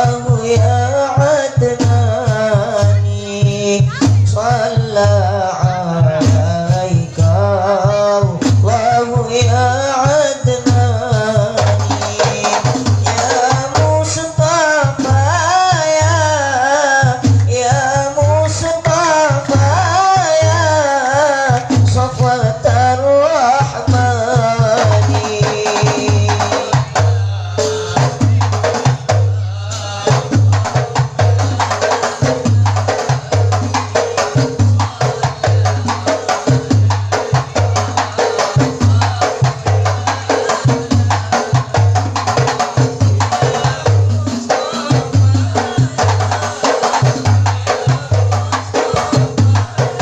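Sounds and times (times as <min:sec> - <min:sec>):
frame drums beating: 0:00.0 - 0:50.0
person singing: 0:00.0 - 0:50.0.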